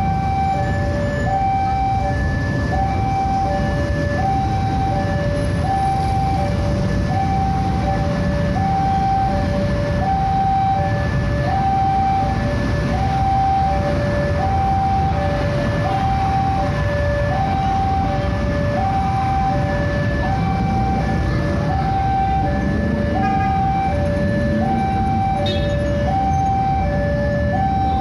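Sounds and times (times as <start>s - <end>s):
two-tone crossing alarm: 0.0s - 28.0s.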